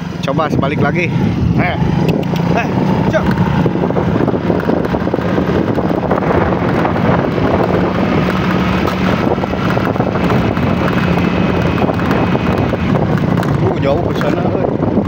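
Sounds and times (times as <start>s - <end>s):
low engine drone: 0.0s - 15.0s
wind on microphone: 0.0s - 15.0s.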